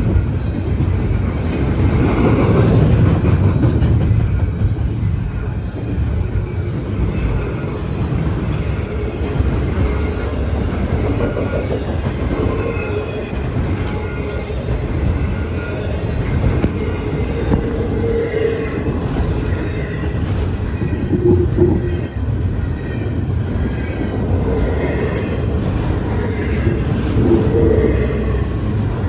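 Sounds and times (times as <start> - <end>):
freight train rumbling past: 0.0 - 29.0
wheels clickety-clack on rail: 0.0 - 29.0.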